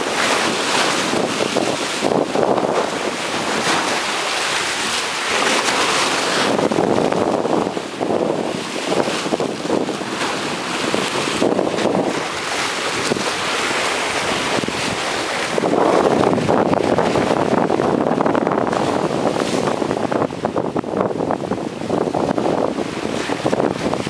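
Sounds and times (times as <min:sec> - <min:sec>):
waves breaking against seawall: 0:00.0 - 0:24.0
wind buffeting microphone: 0:00.0 - 0:24.0.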